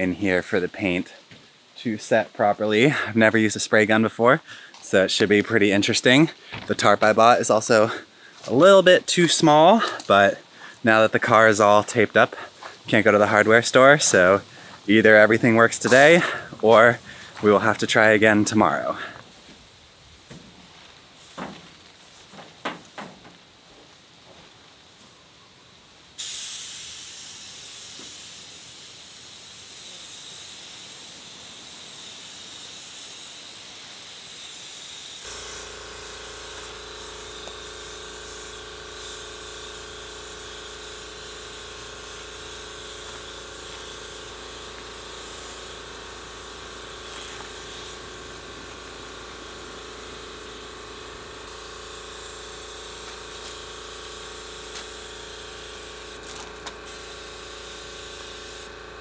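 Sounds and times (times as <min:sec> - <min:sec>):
paint spray gun hissing: 0:05.8 - 0:23.4, 0:26.2 - 0:59.0.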